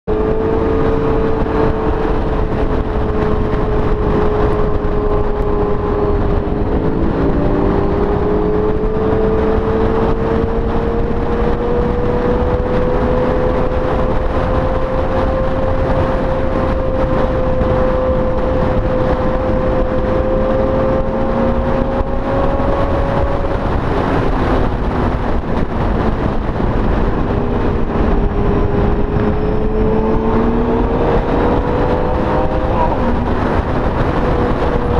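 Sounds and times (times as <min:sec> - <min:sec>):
heavy wind rush: 0:00.0 - 0:34.9
motorcycle engines running: 0:00.1 - 0:34.9.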